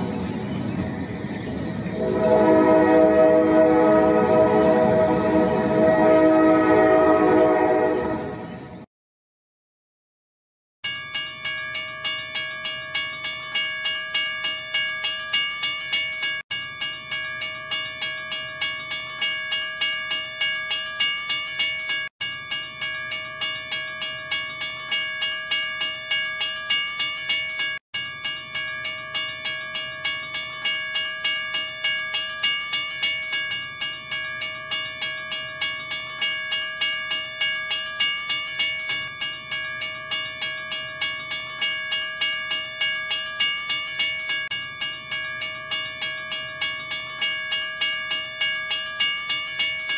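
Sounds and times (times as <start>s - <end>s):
railroad crossing bell ringing: 0.0s - 8.7s, 10.8s - 49.9s.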